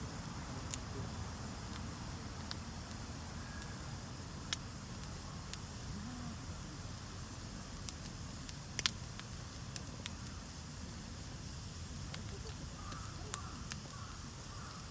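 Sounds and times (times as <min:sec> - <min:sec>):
campfire crackling and popping: 0:00.2 - 0:14.9.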